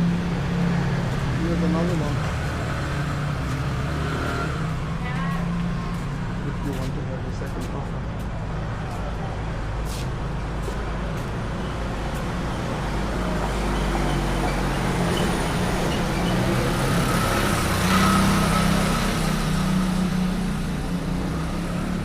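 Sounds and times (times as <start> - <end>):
vehicle engine passing close: 0.0 - 7.4, 11.4 - 22.0
street traffic: 0.0 - 22.0.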